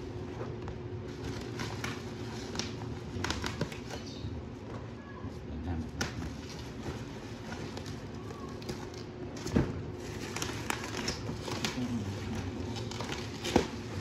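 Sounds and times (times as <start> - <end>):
bubble wrap crinkling: 0.7 - 4.1, 6.0 - 14.0.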